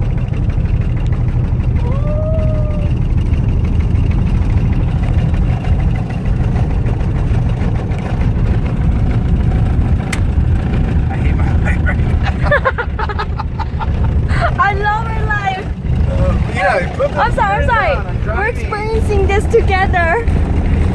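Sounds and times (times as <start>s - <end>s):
car rumble from inside cabin: 0.0s - 20.9s.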